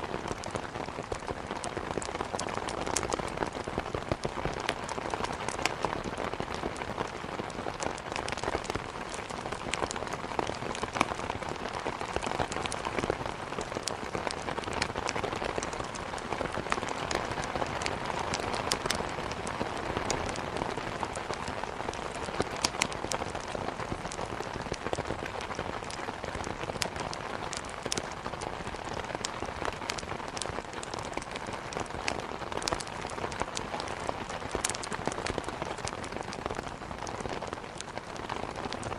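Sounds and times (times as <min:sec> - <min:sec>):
steady rain downpour: 0:00.0 - 0:38.9
wood fire crackling and popping: 0:00.0 - 0:38.9.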